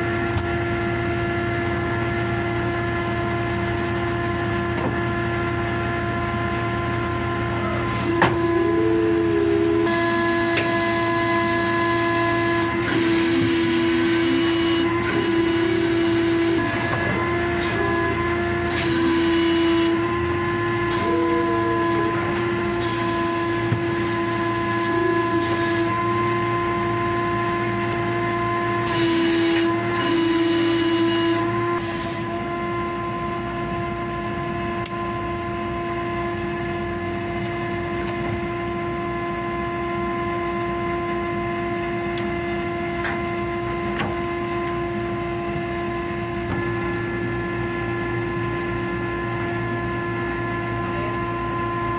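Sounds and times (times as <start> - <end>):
machinery high-pitched hum: 0.0 - 51.9.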